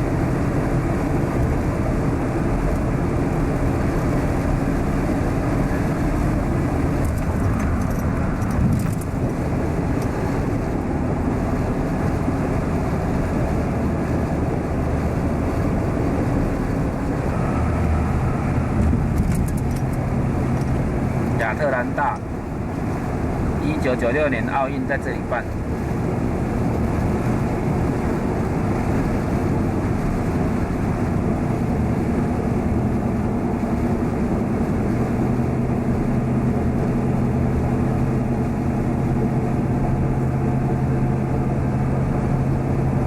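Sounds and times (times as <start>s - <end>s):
car engine: 0.0s - 43.0s
tyre road noise: 0.0s - 43.0s.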